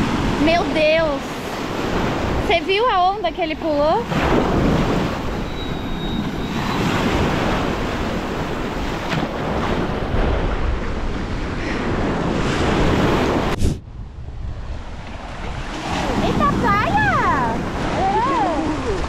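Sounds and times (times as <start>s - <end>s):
ocean surf washing onto beach: 0.0s - 19.0s
wind buffeting microphone: 0.0s - 19.0s.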